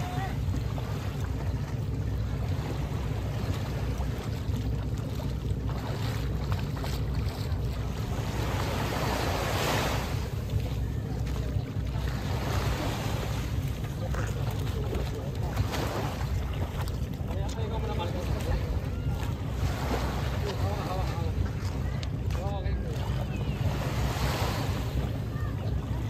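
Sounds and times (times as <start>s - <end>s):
small waves washing: 0.0s - 26.0s
steady low hum: 0.0s - 26.0s.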